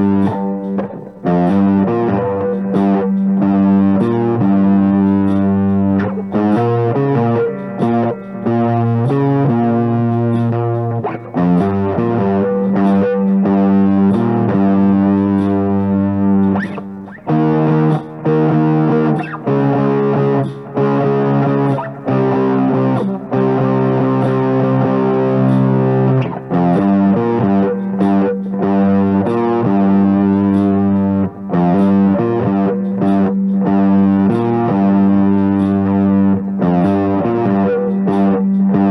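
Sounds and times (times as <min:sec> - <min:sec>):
overdriven electric guitar: 0:00.0 - 0:38.9.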